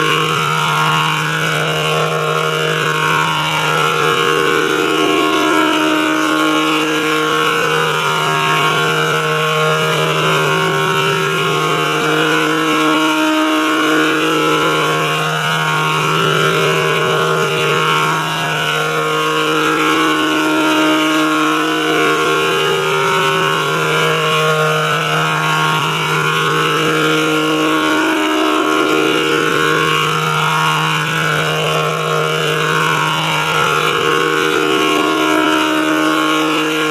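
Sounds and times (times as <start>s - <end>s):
sustained electronic drone: 0.0s - 36.9s.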